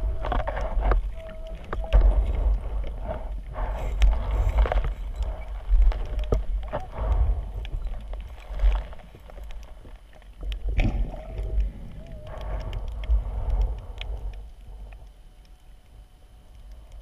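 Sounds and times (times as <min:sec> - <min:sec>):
underwater churning water rumble: 0:00.0 - 0:15.4.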